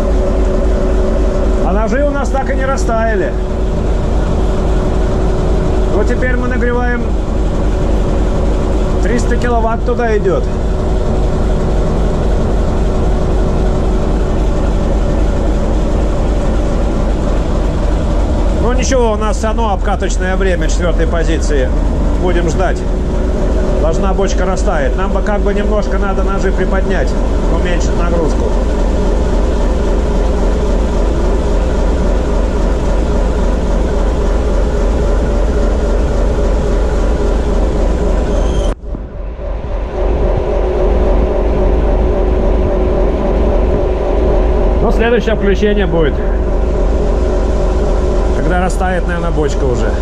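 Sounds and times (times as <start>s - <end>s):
diesel locomotive engine running: 0.0s - 50.0s.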